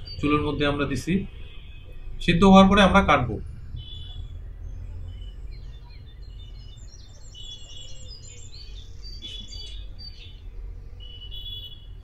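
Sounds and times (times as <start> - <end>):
small birds chirping: 0.0 - 2.1, 3.7 - 12.0.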